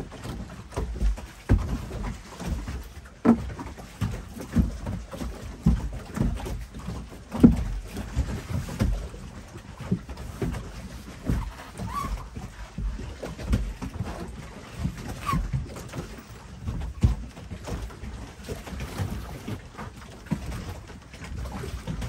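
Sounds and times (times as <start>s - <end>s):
water lapping against boat hull: 0.0s - 22.0s.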